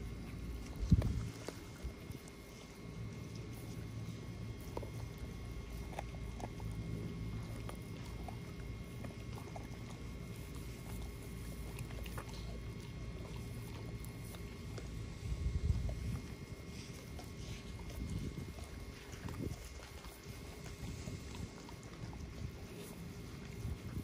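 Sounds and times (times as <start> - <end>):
dog chewing raw chicken: 0.0 - 24.0.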